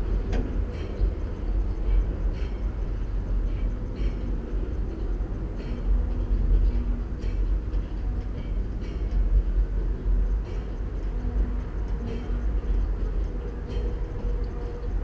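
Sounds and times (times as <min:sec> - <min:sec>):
suspended rail car rumbling: 0:00.0 - 0:15.0.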